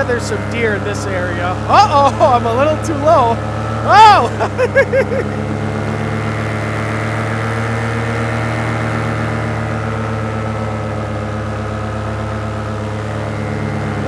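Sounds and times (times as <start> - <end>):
paramotor engine and propeller: 0.0 - 14.0.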